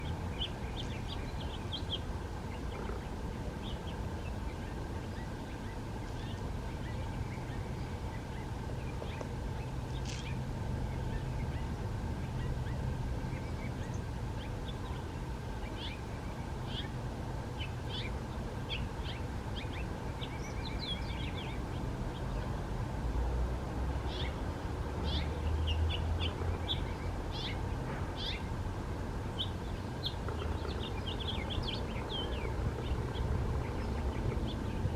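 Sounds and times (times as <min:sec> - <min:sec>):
small birds chirping: 0:00.0 - 0:22.8, 0:24.0 - 0:34.9
background hiss and low rumble: 0:00.0 - 0:34.9.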